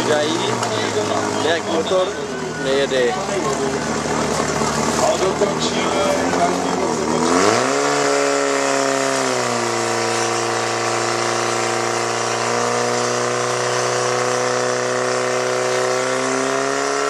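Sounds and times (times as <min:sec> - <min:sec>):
pump engine running at high revs: 0:00.0 - 0:17.0.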